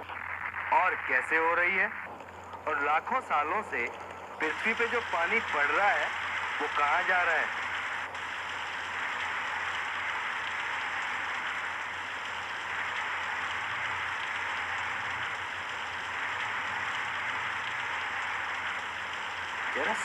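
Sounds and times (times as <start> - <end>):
rain falling on water: 0.2 - 20.0.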